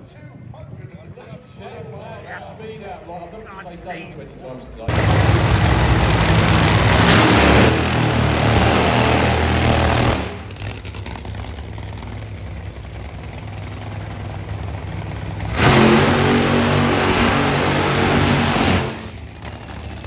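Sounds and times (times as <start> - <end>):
drag racing engines at full throttle: 0.9 - 20.0.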